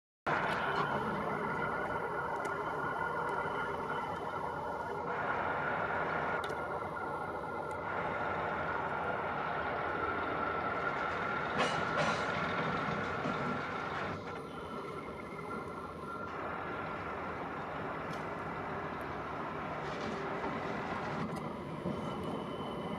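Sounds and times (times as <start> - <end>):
high steady tone: 0.3 - 19.8
train rumbling past: 0.3 - 22.9.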